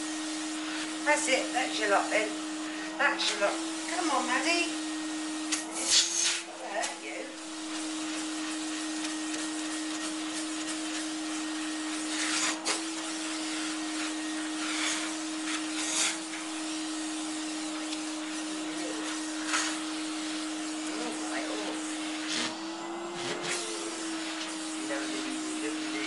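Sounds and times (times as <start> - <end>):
vacuum cleaner humming: 0.0 - 26.0.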